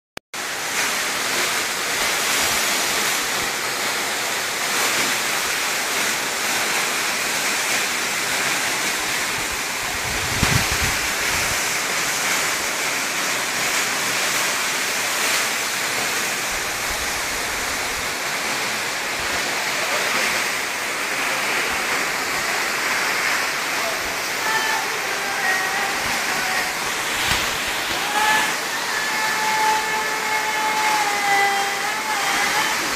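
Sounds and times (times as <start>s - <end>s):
waterfall rushing: 0.4s - 32.9s.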